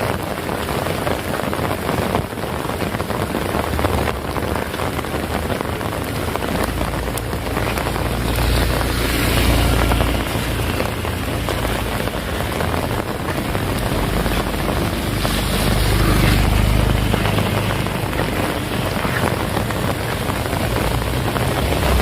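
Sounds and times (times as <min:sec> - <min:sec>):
heavy rain: 0:00.0 - 0:22.0
low rumble: 0:03.6 - 0:22.0.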